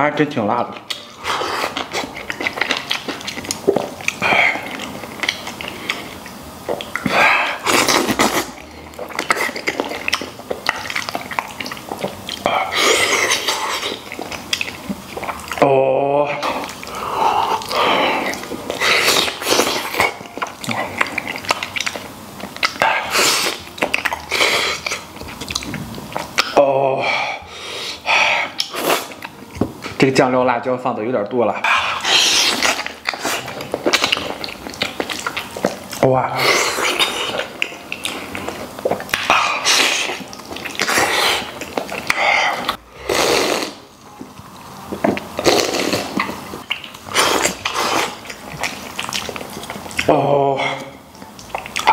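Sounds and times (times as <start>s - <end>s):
person chewing meat: 0.7s - 30.0s, 31.6s - 51.9s
wet mouth clicks: 0.8s - 15.6s, 16.3s - 26.6s, 31.7s - 43.8s, 44.9s - 51.9s.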